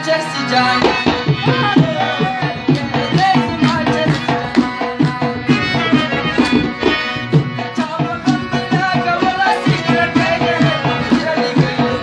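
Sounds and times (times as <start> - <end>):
harmonium chords and melody: 0.0 - 12.0
hand drum beat: 0.8 - 12.0.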